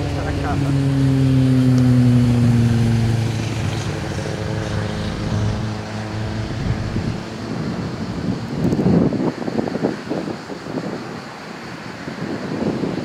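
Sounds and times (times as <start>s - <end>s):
aircraft engine hum: 0.0s - 13.0s
steady rush of noise: 0.0s - 13.0s
wind on microphone: 0.0s - 13.0s.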